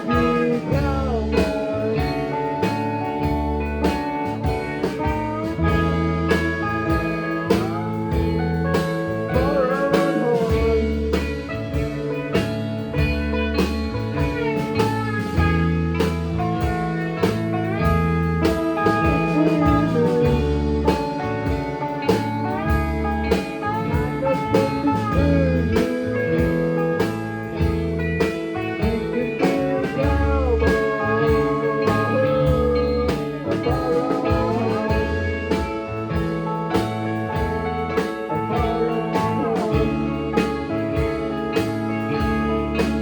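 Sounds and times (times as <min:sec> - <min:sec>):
bass and drums: 0:00.0 - 0:43.0
bluesy guitar lead: 0:00.0 - 0:43.0.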